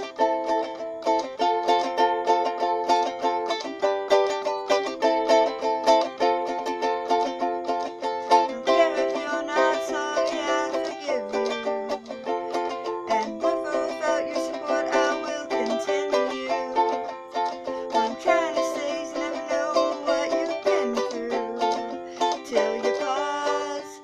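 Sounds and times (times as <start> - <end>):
person singing: 0.0 - 24.0
ukulele strumming chords: 0.0 - 24.0.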